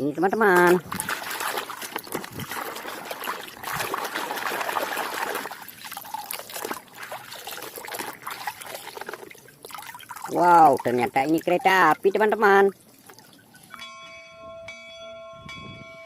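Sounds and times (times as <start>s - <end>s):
water trickling and splashing: 0.0s - 13.9s.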